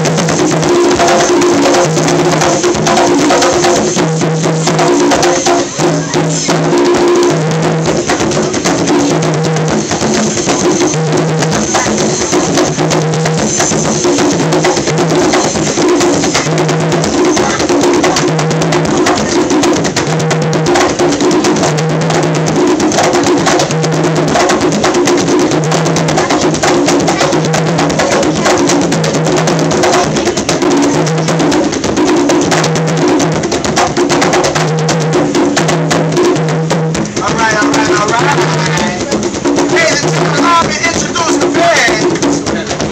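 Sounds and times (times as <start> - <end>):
conga drums played by hand: 0.0 - 42.9.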